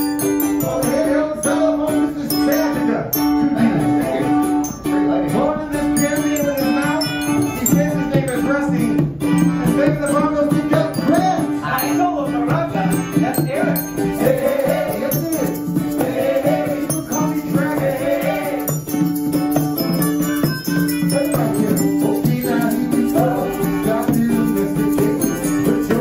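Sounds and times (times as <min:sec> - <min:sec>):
bongos playing: 0:00.0 - 0:26.0
held pitched notes: 0:00.0 - 0:26.0
wavering melody line: 0:00.0 - 0:26.0.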